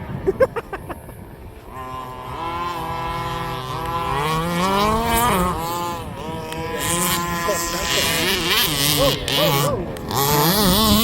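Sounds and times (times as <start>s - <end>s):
rc car engines revving: 1.6s - 11.0s.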